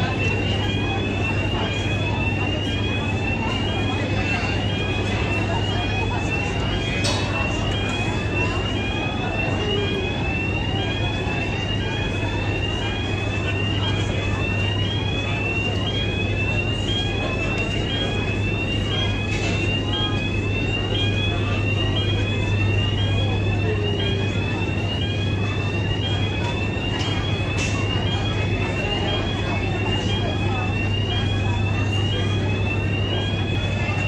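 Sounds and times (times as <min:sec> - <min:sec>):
ship machinery hum: 0:00.0 - 0:34.0.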